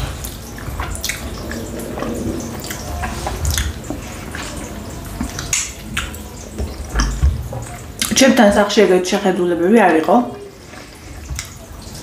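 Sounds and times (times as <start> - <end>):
wet eating and slurping: 0.0 - 8.2, 10.3 - 12.0.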